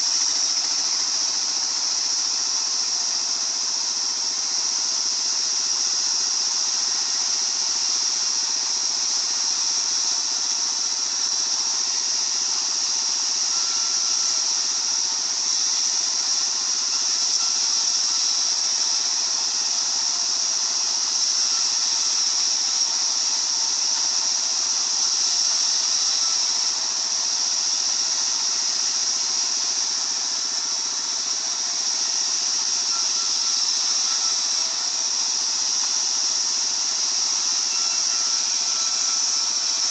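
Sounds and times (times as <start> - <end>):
circular sawmill hissing and whining: 0.0 - 39.9.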